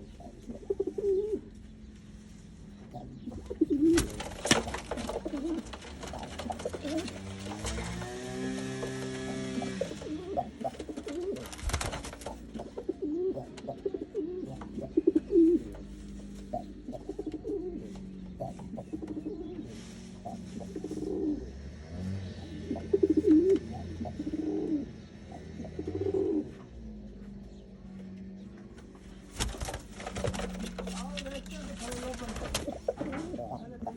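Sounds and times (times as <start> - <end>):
pigeons cooing: 0.0 - 33.9.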